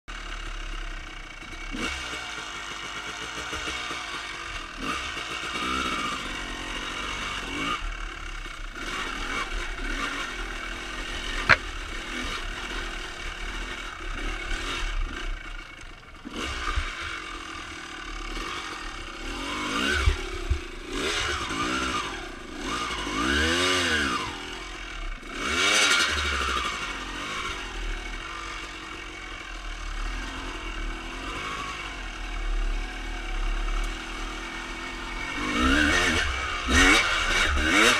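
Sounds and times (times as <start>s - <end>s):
dirt bike engine revving: 0.2s - 37.9s.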